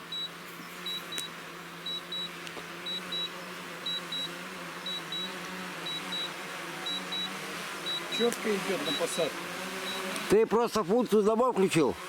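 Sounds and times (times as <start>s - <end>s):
drone propellers humming: 0.1s - 10.3s.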